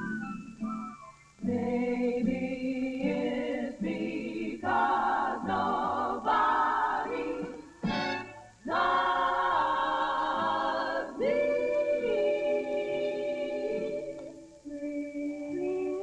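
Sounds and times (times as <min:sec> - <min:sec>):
female vocal group singing harmony: 0:01.4 - 0:07.7, 0:08.6 - 0:16.0.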